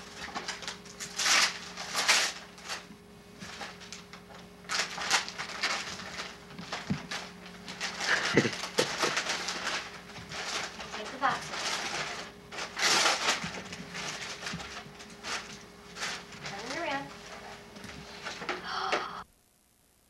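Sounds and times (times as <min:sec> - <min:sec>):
wrapping paper tearing and rustling: 0:00.0 - 0:18.8
faint steady hum: 0:00.0 - 0:20.0.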